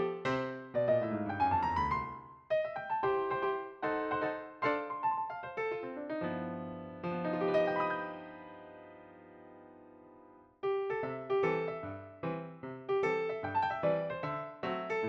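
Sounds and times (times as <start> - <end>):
electric piano music: 0.0 - 15.0.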